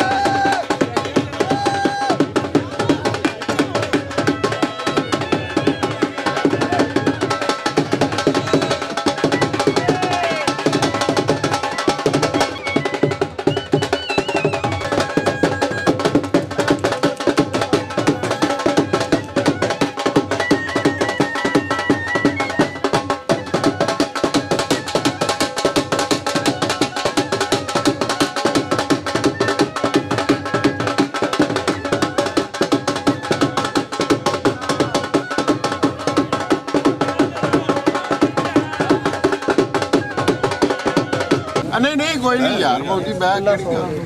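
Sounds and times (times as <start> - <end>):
fast driving drumming: 0.0 - 42.4.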